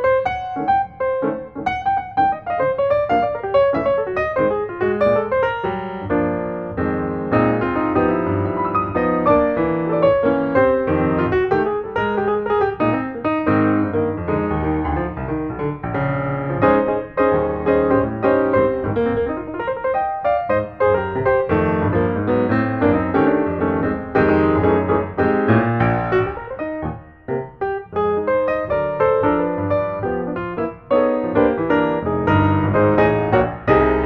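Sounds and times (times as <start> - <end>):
background piano music: 0.0 - 34.0.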